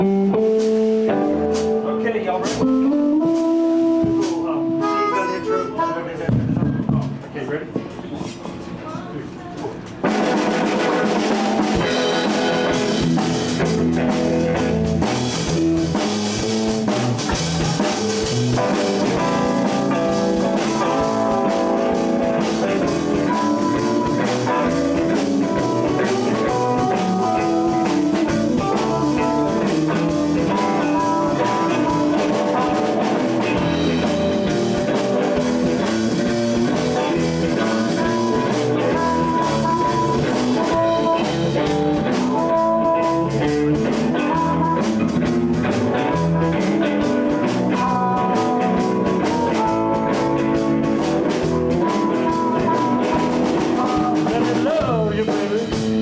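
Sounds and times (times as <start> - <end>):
blues guitar lines: 0.0 - 7.2, 10.0 - 56.0
drum kit beat: 0.0 - 7.2, 10.0 - 56.0
bass: 0.0 - 7.3, 10.0 - 56.0.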